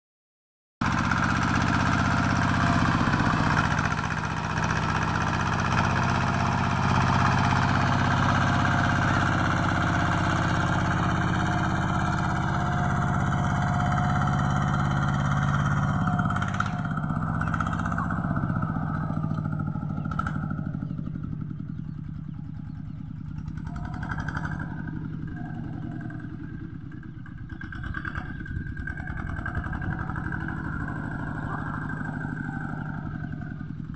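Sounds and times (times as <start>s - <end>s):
small tractor engine running: 0.8s - 33.9s.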